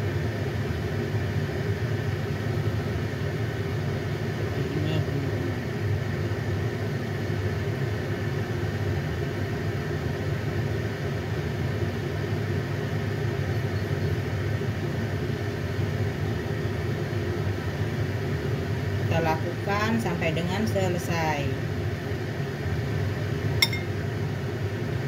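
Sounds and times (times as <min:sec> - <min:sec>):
low mechanical hum with rumble: 0:00.0 - 0:25.0.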